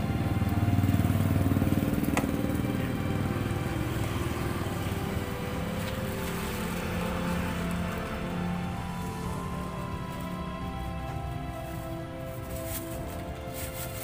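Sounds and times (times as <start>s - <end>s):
small engine pulsing: 0.0s - 14.0s.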